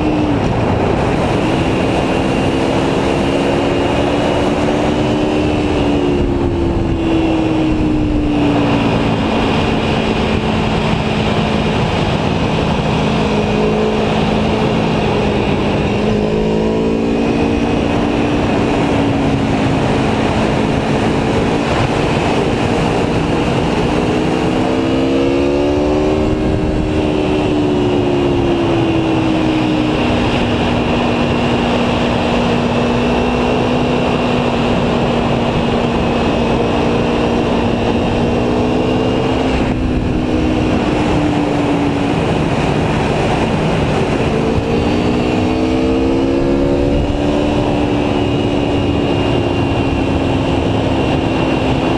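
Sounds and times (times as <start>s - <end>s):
motorcycle engine running: 0.0s - 51.9s
wind rushing past microphone: 0.0s - 51.9s.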